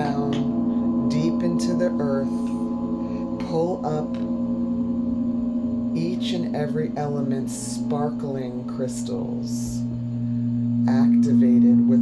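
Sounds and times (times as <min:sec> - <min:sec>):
low ringing drone: 0:00.0 - 0:12.0.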